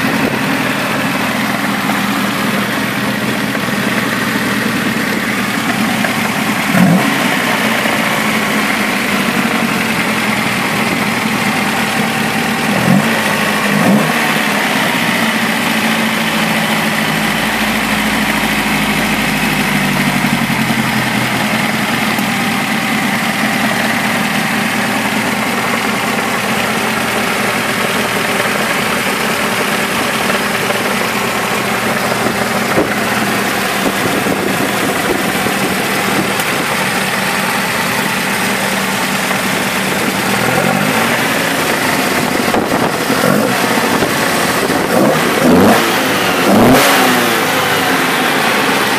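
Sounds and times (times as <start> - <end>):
car engine idling: 0.0 - 48.9
engine throttle blips: 0.0 - 48.9.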